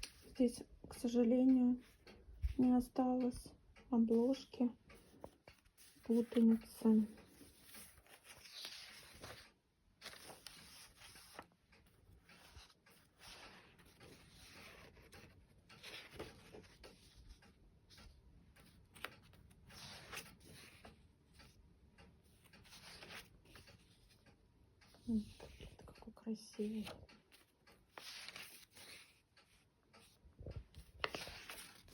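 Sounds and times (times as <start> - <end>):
book pages rustling: 0.0 - 1.0, 4.0 - 21.6, 22.2 - 24.3, 24.9 - 31.9.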